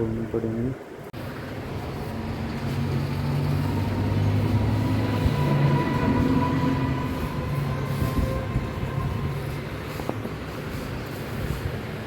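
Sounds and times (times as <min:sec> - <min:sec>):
faint rising whine: 0:01.2 - 0:10.9.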